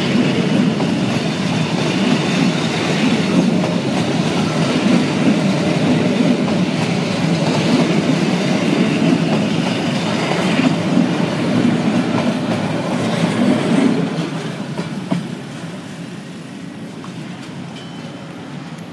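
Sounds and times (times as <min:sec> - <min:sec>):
train wheels clattering over rail joints: 0:00.0 - 0:15.7.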